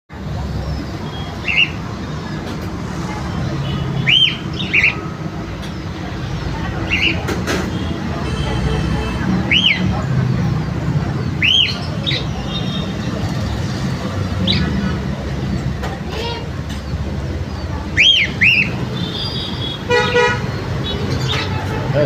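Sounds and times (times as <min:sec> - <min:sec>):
birds chirping: 0:00.1 - 0:22.0.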